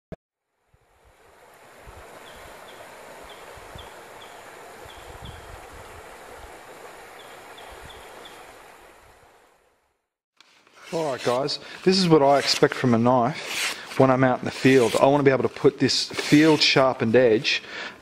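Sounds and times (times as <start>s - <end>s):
creek water running over rocks: 0.9s - 9.6s, 10.9s - 17.7s.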